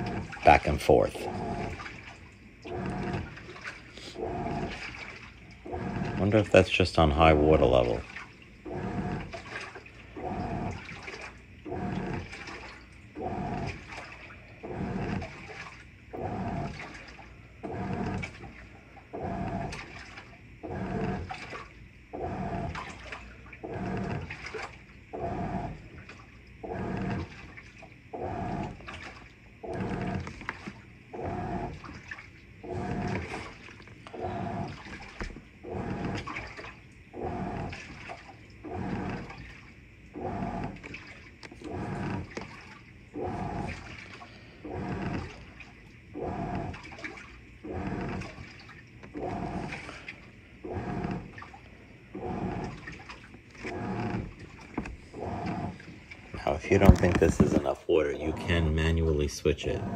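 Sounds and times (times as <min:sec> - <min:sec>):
washing machine agitating: 0:00.0 - 0:59.9.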